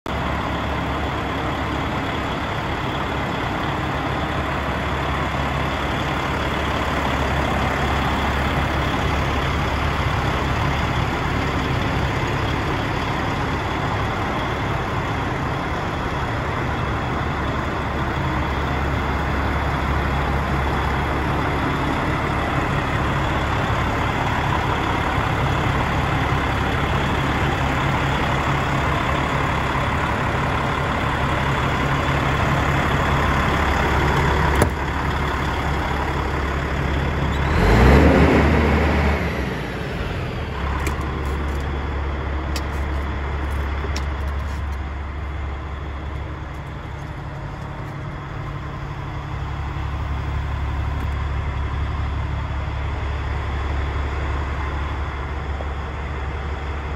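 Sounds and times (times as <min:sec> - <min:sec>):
diesel truck engine idling: 0:00.1 - 0:56.9.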